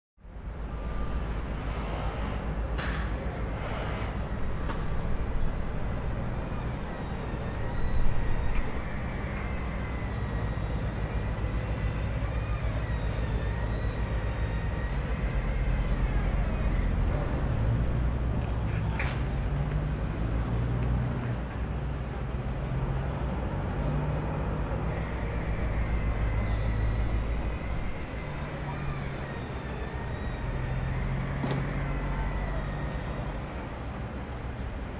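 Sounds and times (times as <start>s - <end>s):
heavy machinery rumbling: 0.4s - 34.9s.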